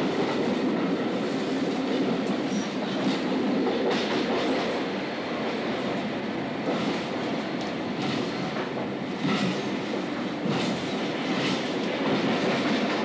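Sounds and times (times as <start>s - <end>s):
train rumbling in motion: 0.0s - 13.0s.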